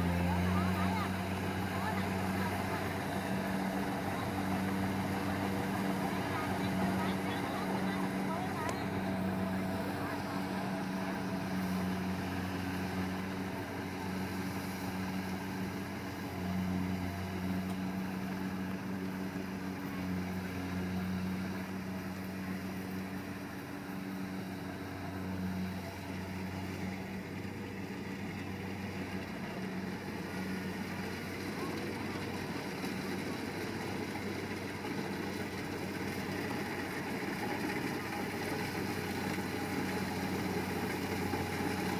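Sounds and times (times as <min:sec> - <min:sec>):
combine harvester engine droning: 0:00.0 - 0:41.9.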